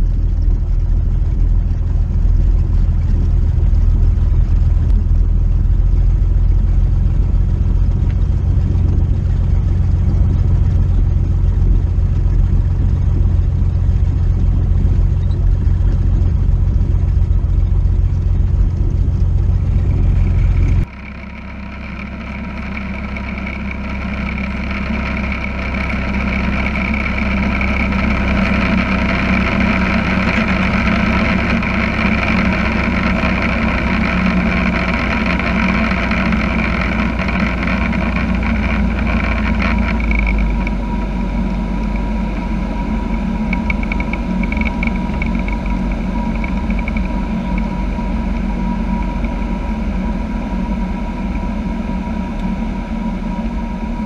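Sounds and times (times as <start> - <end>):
engine and propeller drone: 0.0 - 54.0
plane engine rumbling: 0.0 - 54.0.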